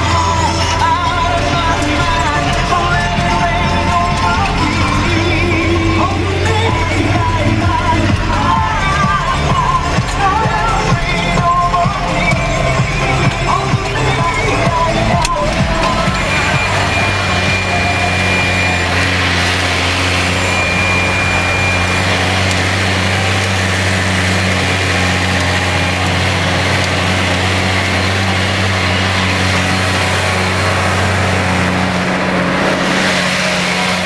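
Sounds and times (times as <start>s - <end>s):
tractor diesel engine droning: 0.0s - 34.0s.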